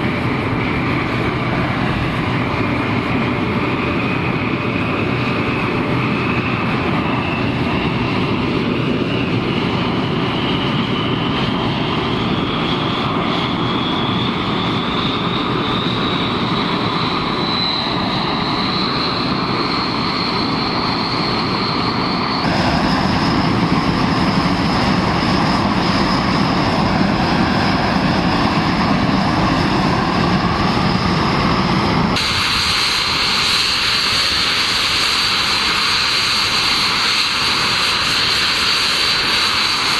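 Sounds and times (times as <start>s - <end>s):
jet engine rush: 0.0s - 39.9s
jet engine whine: 0.0s - 39.9s.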